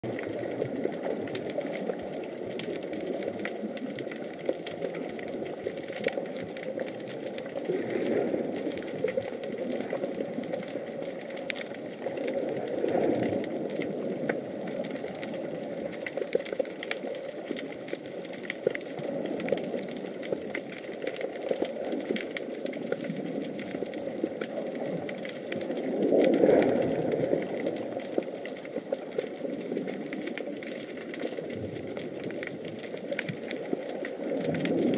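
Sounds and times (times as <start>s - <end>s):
muffled underwater rumble: 0.0s - 34.9s
small underwater clicks and crackles: 0.0s - 34.9s.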